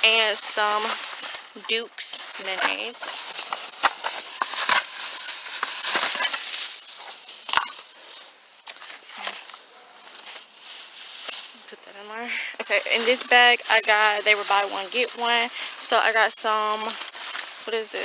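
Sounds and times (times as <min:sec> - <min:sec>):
grocery bags rustling: 0:00.0 - 0:18.0.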